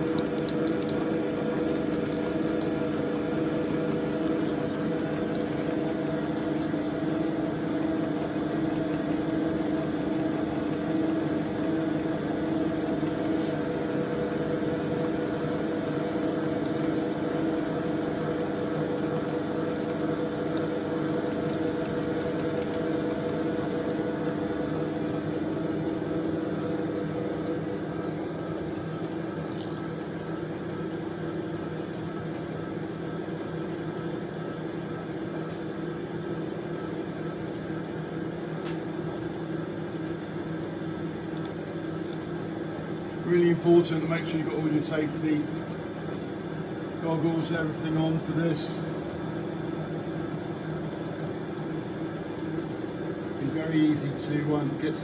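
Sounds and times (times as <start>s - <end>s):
milling machine motor humming: 0.0s - 36.2s, 37.0s - 55.0s.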